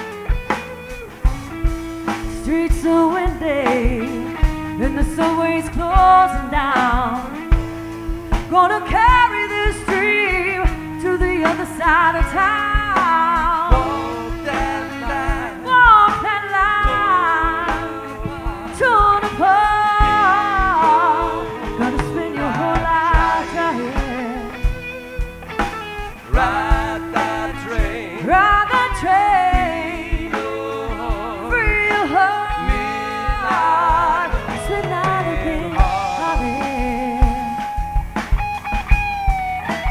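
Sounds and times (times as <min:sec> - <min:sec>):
drums: 0:00.0 - 0:39.9
electric guitars: 0:00.0 - 0:39.9
woman singing blues vocal: 0:02.0 - 0:38.3.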